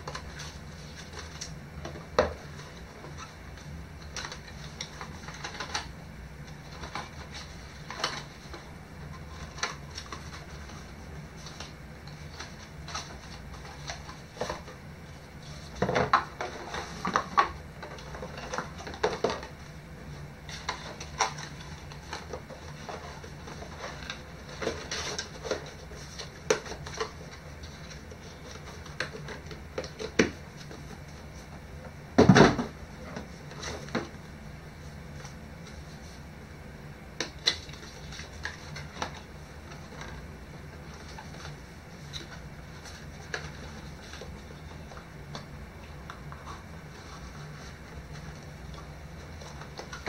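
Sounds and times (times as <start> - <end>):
cardboard and plastic handling: 0.0 - 36.2, 37.2 - 50.0.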